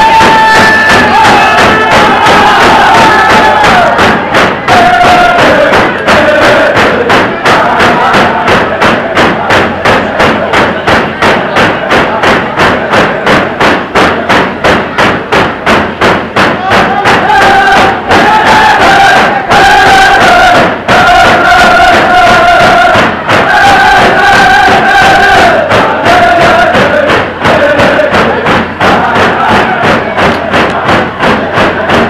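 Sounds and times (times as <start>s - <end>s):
men singing: 0.0s - 14.3s, 16.6s - 32.0s
hand drums beaten: 0.0s - 32.0s.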